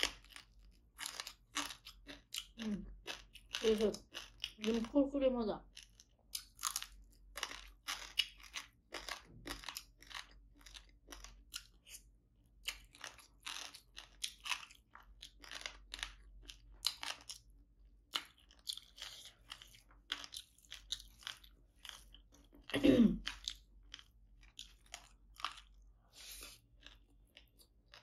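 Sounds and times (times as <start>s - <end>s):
crunchy chewing: 0.0s - 5.0s, 5.6s - 28.0s.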